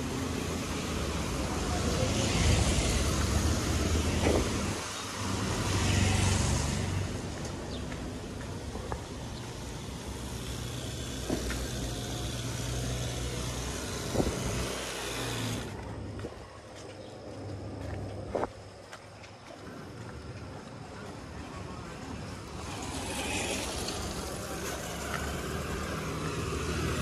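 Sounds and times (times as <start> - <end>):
traffic background: 0.0 - 27.0.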